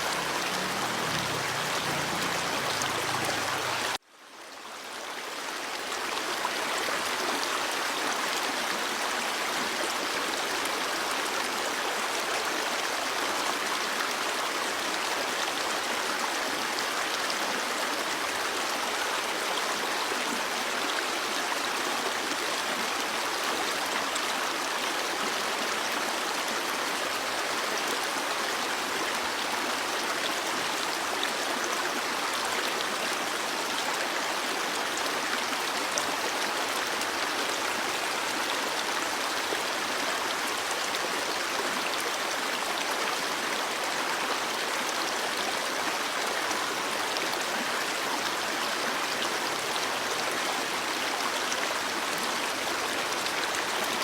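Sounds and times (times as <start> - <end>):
brook flowing over rocks: 0.0 - 54.0.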